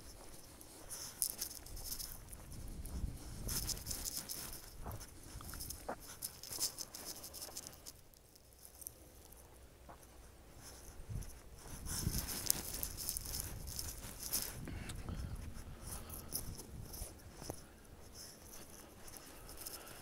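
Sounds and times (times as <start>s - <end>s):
footsteps on dirt trail: 0.0s - 8.0s, 8.7s - 20.0s
dry grass rustling: 0.0s - 20.0s.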